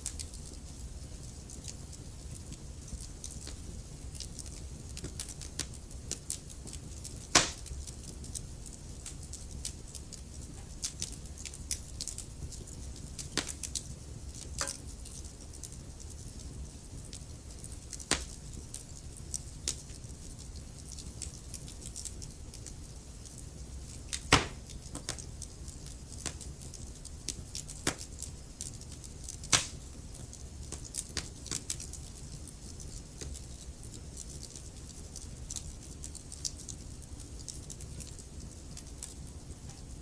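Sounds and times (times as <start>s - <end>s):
fire crackles and pops: 0.0s - 40.0s
low rumble of flame: 0.0s - 40.0s.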